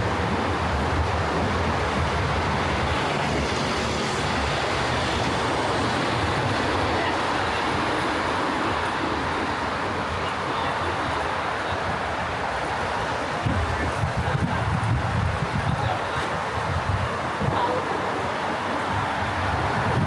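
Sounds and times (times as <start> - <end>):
heavy city traffic rumble: 0.0 - 20.0.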